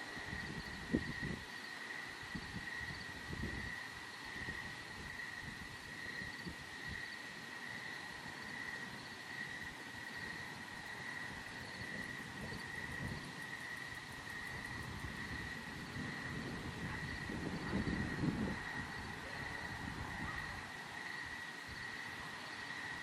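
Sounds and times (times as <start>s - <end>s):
wind noise on microphone: 0.0s - 1.5s, 2.2s - 7.1s, 9.6s - 22.3s
insects trilling: 0.0s - 23.0s.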